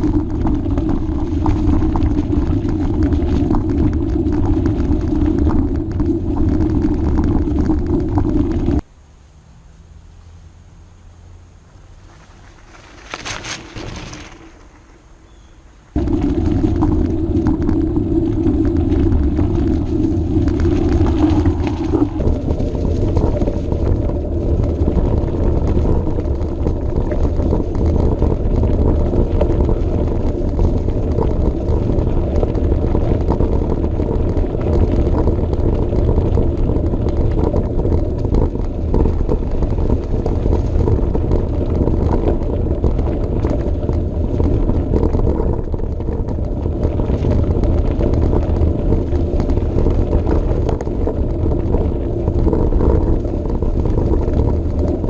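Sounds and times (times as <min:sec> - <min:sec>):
mountain bike rumbling along path: 0:00.0 - 0:08.9, 0:11.3 - 0:55.0.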